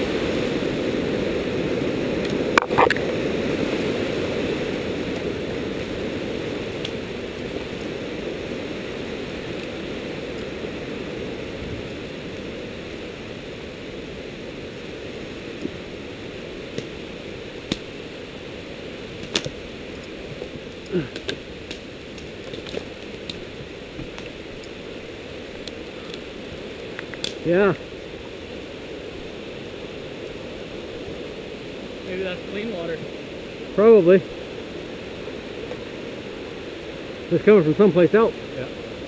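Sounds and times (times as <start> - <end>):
creek rushing: 0.0 - 39.0.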